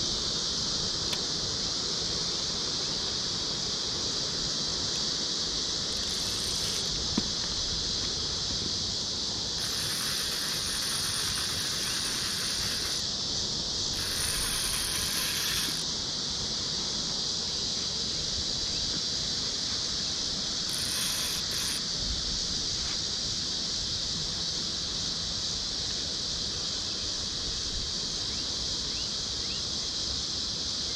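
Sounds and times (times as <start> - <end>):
insect chorus: 0.0 - 30.9.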